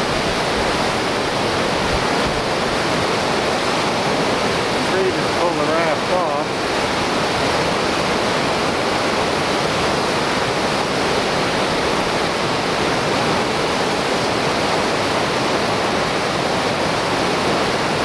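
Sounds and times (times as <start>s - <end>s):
whitewater rapids roaring: 0.0s - 18.0s.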